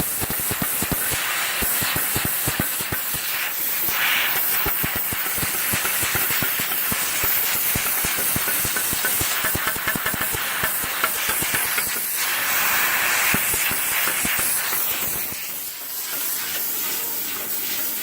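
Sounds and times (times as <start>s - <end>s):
arc crackling and popping: 0.0s - 16.6s
plasma cutter air hiss: 0.0s - 18.0s.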